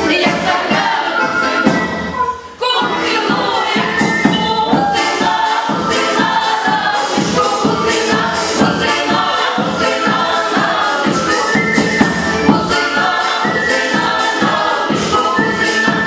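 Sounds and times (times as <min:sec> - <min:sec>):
choir singing: 0:00.0 - 0:16.0
instrumental accompaniment with beat: 0:00.0 - 0:16.0.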